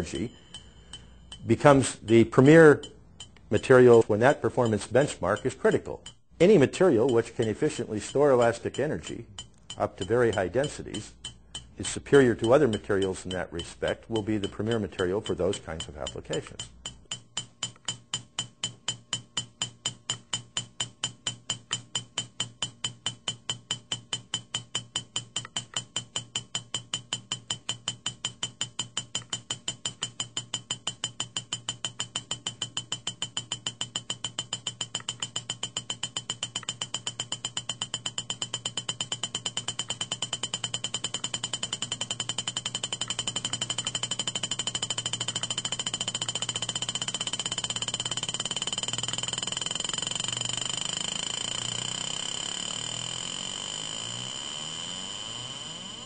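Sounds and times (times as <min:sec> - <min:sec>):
steel ball bouncing on metal plate: 0:00.0 - 0:53.9.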